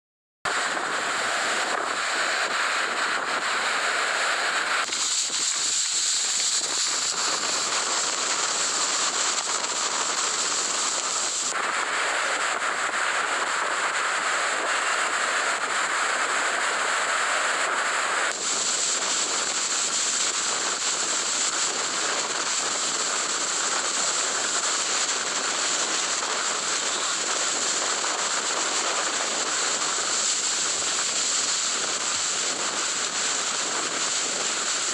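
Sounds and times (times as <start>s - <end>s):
hurricane wind and driving rain: 0.5s - 34.9s
wind buffeting microphone: 0.5s - 34.9s.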